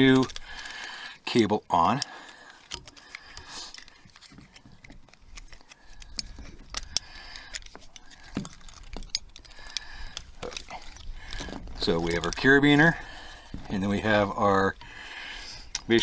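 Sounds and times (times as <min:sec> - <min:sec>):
cable fittings clicking and scraping: 0:00.0 - 0:16.0.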